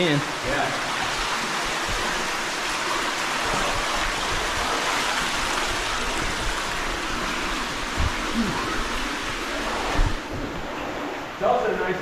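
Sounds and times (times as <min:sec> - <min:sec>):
cave stream water rushing: 0:00.0 - 0:12.0.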